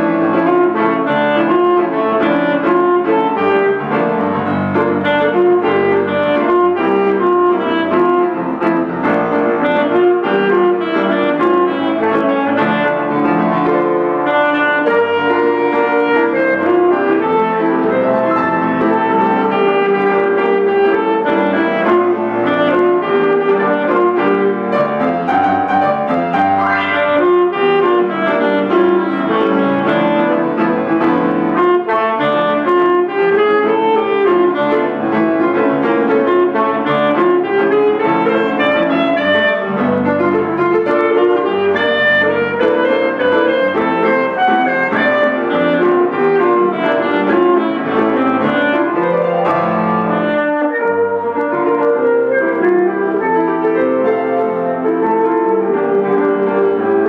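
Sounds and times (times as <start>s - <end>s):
alto saxophone melody: 0.0s - 57.0s
piano accompaniment: 0.0s - 57.0s.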